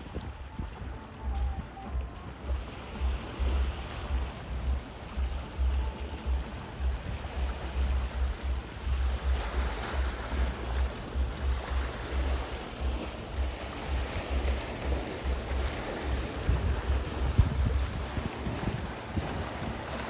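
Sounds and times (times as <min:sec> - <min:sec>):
waves lapping over rocks: 0:00.0 - 0:20.0
wind buffeting microphone: 0:00.0 - 0:20.0.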